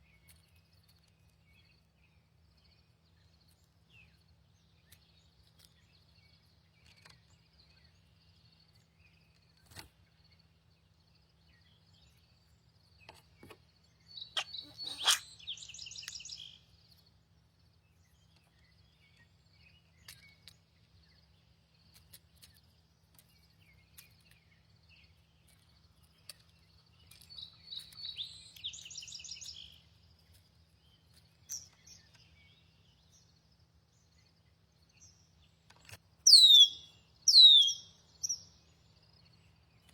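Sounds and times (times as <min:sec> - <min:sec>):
songbird singing buzzy trill: 0:00.0 - 0:39.9.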